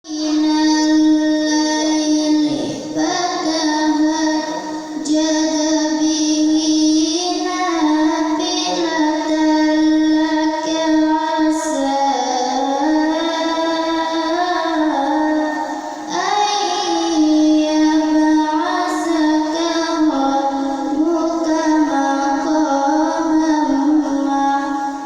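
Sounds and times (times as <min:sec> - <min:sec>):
girl reciting melodically: 0:00.0 - 0:25.0.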